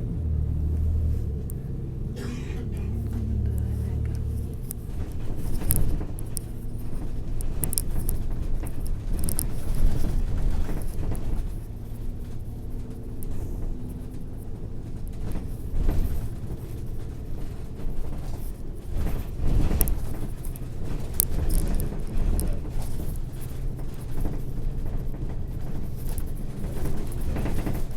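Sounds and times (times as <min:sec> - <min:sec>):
low uneven rumbling: 0:00.0 - 0:27.9
sharp clicks and crackles: 0:03.0 - 0:27.9.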